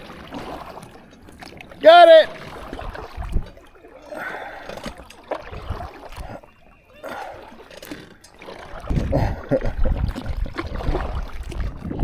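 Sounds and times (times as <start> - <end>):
water sloshing against kayak: 0.0 - 12.0.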